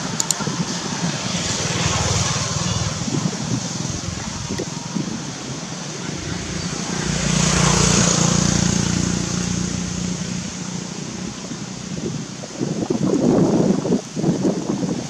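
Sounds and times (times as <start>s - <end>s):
engine drone passing by: 0.0s - 13.0s.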